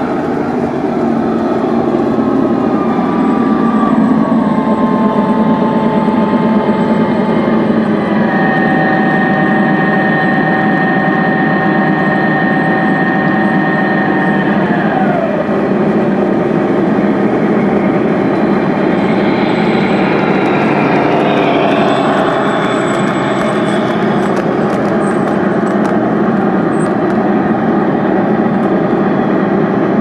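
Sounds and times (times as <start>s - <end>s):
model train rolling on track: 0.0s - 30.0s
model train motor whine: 1.1s - 28.8s.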